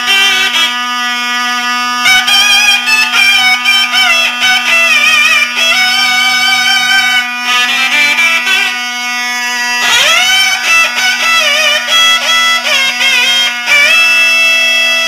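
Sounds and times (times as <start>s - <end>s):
steady drone: 0.0s - 15.0s
wavering sliding melody: 0.0s - 15.0s.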